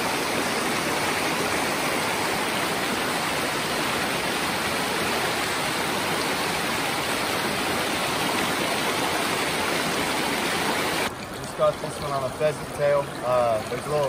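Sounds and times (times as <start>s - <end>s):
river water rushing over rocks: 0.0s - 12.2s.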